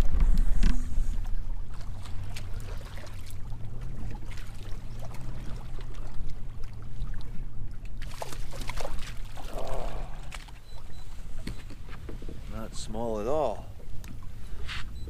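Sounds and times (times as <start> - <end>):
low steady hum: 0.0 - 15.0
water lapping against boat hull: 0.0 - 15.0.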